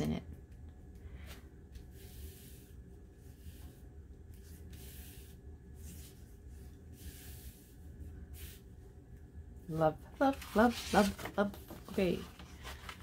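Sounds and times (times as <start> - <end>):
low steady hum: 0.0 - 13.0
soft swishing hand rubs on paper: 1.2 - 9.0, 9.8 - 13.0.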